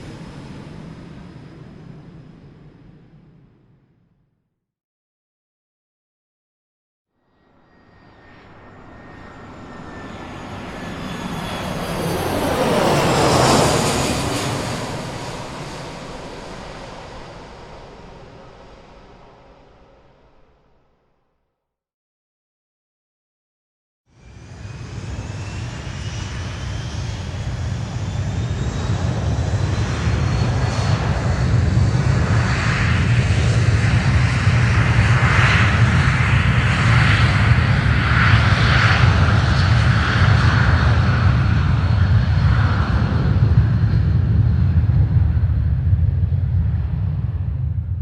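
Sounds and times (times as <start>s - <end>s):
airplane engine running up: 0.0s - 3.3s, 7.7s - 19.6s, 24.2s - 48.0s.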